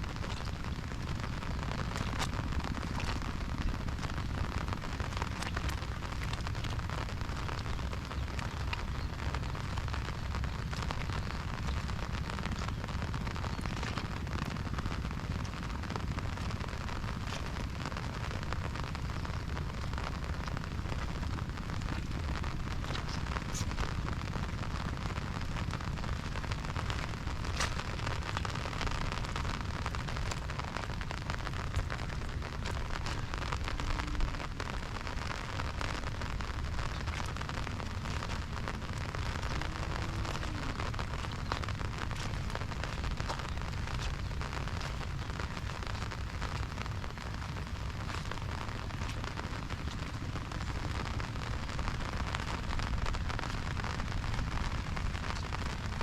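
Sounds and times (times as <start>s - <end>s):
raindrops ticking on umbrella: 0.0s - 56.0s
steady rain hiss: 0.0s - 56.0s.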